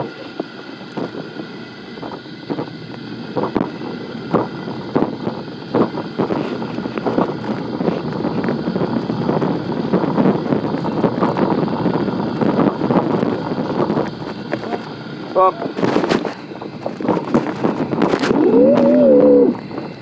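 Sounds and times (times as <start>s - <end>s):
road rumble: 0.0s - 20.0s.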